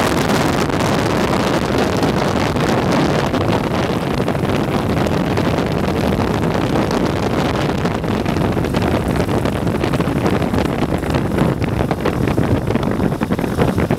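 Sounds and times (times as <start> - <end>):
v-twin engine running hard: 0.0 - 13.9
wind buffeting microphone: 0.0 - 13.9.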